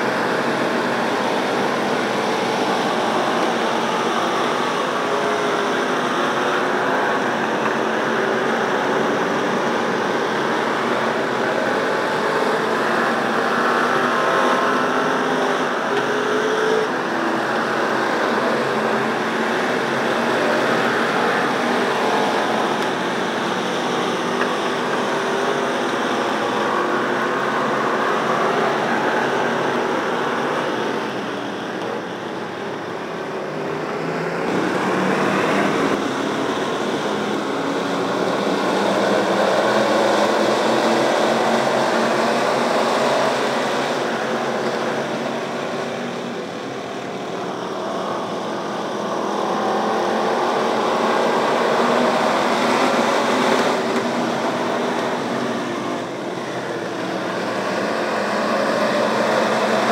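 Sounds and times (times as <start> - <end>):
race car engines droning: 0.0 - 59.9.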